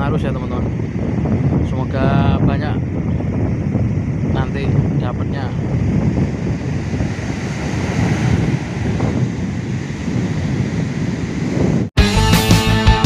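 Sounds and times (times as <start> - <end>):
heavy surf breaking: 0.0 - 11.9
wind buffeting microphone: 0.0 - 12.0.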